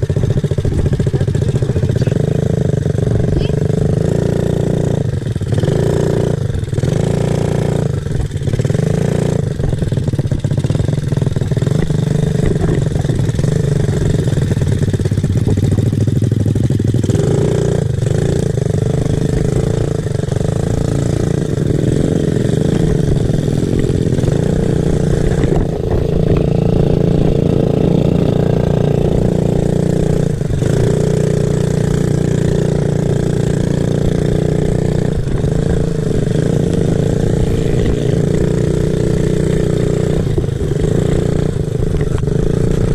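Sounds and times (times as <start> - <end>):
motorcycle engine under throttle: 0.0 - 42.9.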